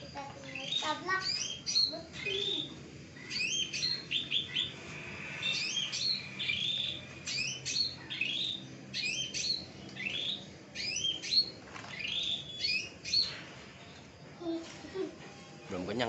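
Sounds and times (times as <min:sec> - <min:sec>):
bird chirping: 0:00.0 - 0:14.6.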